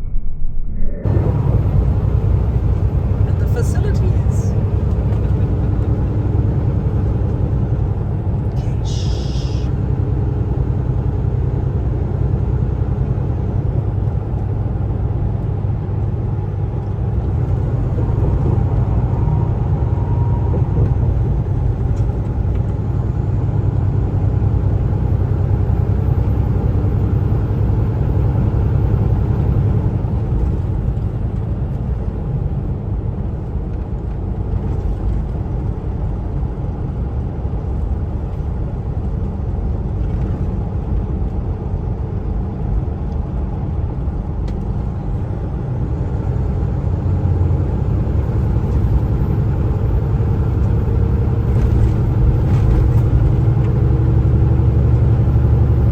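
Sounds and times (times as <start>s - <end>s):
truck engine rumble: 0.0s - 55.9s
road noise: 0.7s - 55.9s.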